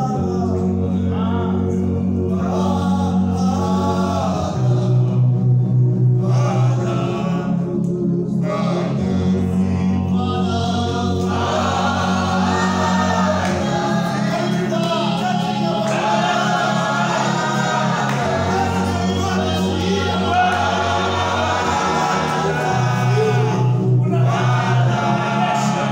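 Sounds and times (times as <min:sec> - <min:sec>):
choir singing gospel: 0:00.0 - 0:25.9
low bass notes: 0:00.0 - 0:25.9.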